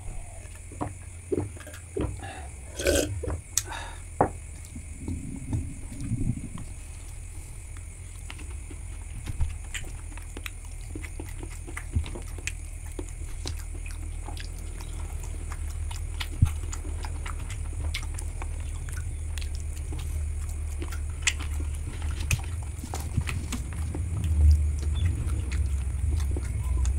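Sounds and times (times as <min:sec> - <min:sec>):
steady low hum: 0:00.0 - 0:26.9
close chewing with mouth smacks: 0:04.4 - 0:26.9.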